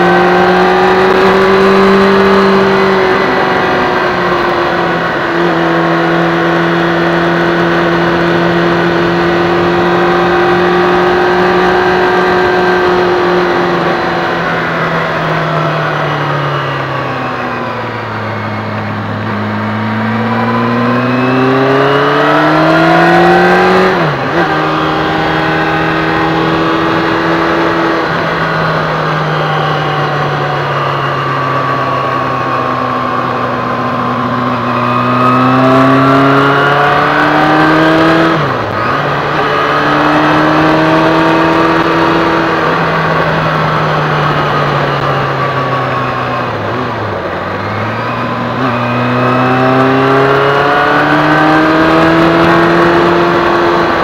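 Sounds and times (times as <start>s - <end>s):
small vehicle engine: 0.0s - 54.0s.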